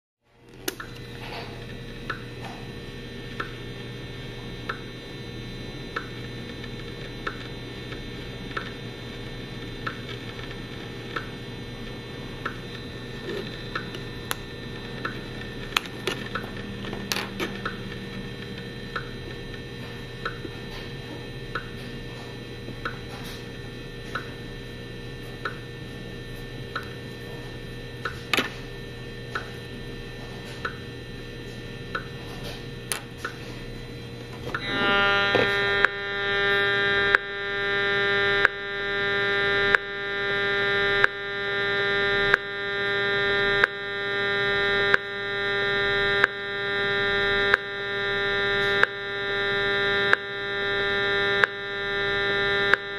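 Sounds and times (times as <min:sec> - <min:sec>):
electronic hum: 0:00.3 - 0:52.9.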